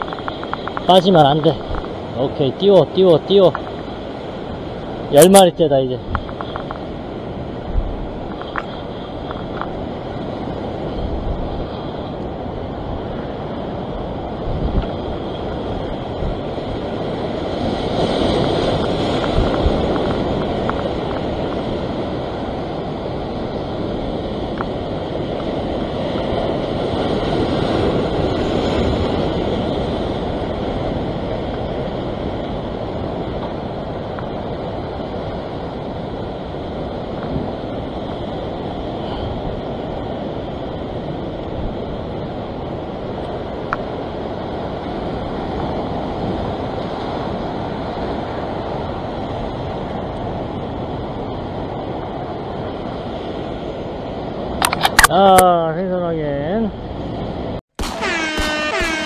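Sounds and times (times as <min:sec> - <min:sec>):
wind noise on microphone: 0:00.0 - 0:55.4
surf washing over rocks: 0:00.0 - 0:59.0.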